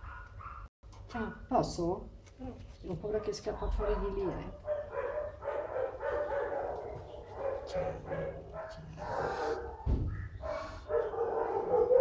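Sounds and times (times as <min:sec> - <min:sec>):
dogs barking: 0:00.0 - 0:00.7, 0:03.0 - 0:12.0.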